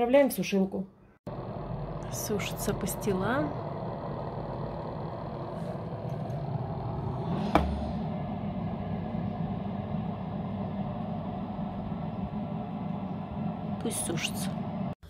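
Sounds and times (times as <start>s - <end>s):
dehydrator fan motor humming: 1.3s - 15.0s.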